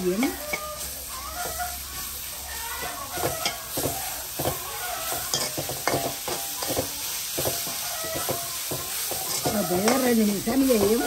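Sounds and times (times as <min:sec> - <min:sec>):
spoon scraping metal pan: 0:00.0 - 0:11.0
vegetables sizzling in oil: 0:00.0 - 0:11.0.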